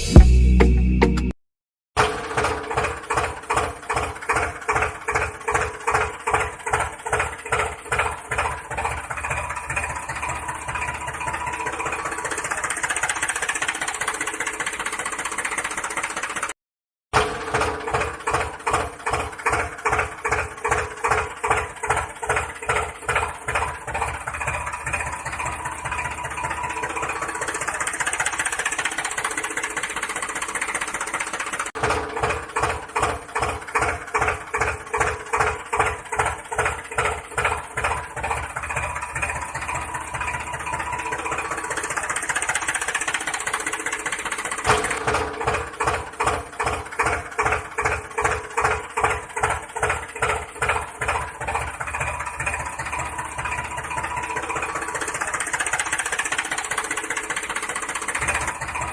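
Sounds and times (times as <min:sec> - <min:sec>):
tractor engine chugging: 0:02.0 - 0:16.6, 0:17.2 - 0:58.9.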